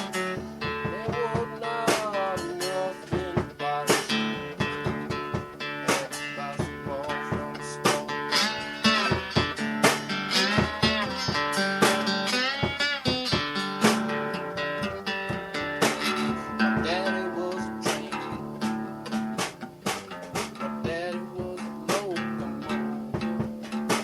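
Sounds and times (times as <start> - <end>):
blues guitar plucked notes: 0.0 - 24.0.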